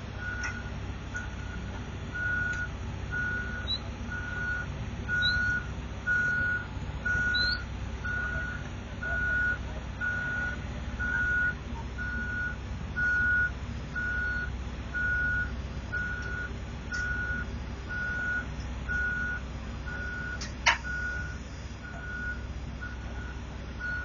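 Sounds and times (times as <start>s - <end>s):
heavy diesel machinery running: 0.0s - 24.0s
backup alarm beeping: 0.2s - 24.0s.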